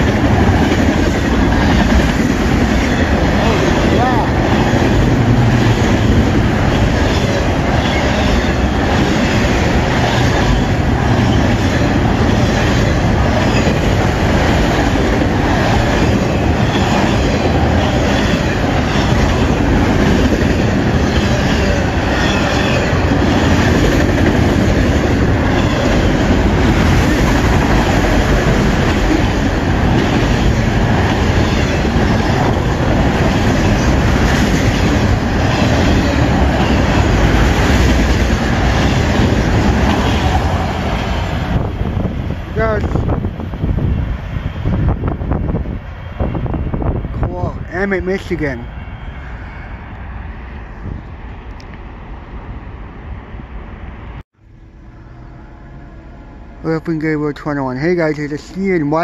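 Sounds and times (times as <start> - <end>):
train wheels rumbling on rail: 0.0 - 54.2.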